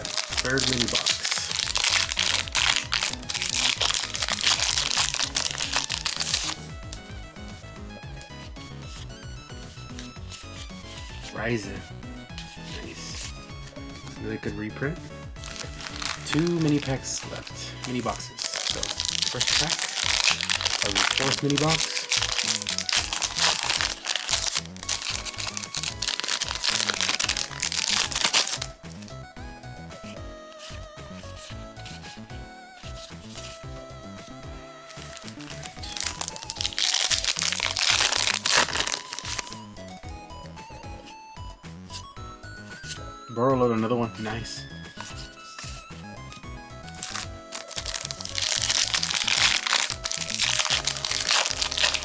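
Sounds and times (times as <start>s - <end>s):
foil wrapper tearing and crinkling: 0.0s - 7.4s, 8.9s - 29.2s, 30.1s - 40.1s, 45.0s - 52.0s
background music: 0.0s - 52.0s.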